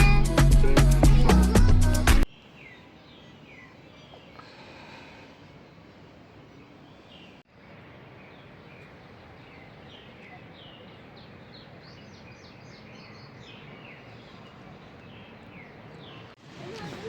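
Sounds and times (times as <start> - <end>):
outdoor ambient hiss: 0.0 - 17.0
small birds chirping: 0.0 - 17.0.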